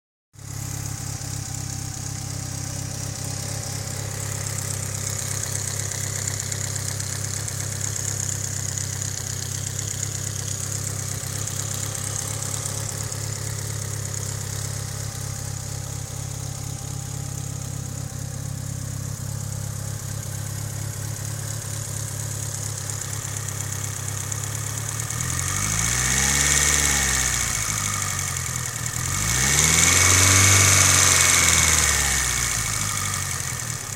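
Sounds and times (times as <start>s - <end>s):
car engine idling and revving: 0.4s - 33.9s.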